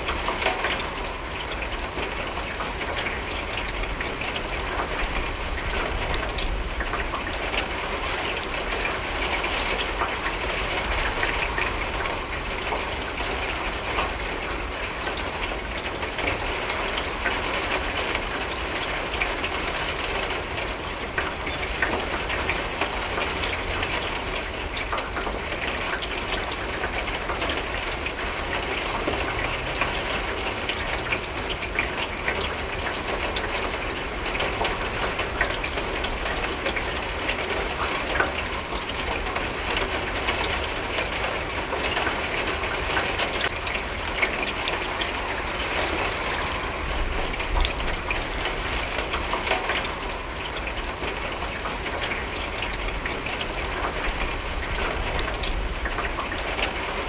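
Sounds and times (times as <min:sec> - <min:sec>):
raindrops ticking on window: 0:00.0 - 0:57.0.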